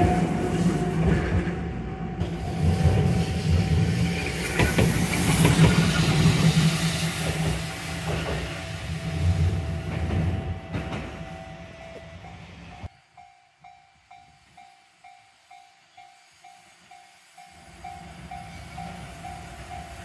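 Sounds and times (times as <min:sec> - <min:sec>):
tram wheels rumbling on track: 0:00.0 - 0:12.9, 0:16.0 - 0:20.0.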